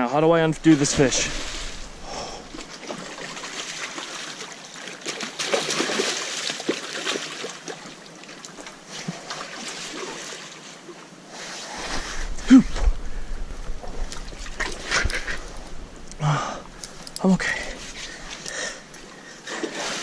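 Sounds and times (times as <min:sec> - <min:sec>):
rushing stream water: 0:00.2 - 0:20.0.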